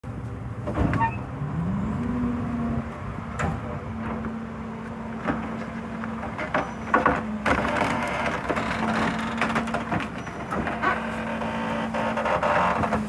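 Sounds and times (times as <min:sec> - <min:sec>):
garbage truck engine revving: 0:00.8 - 0:13.0.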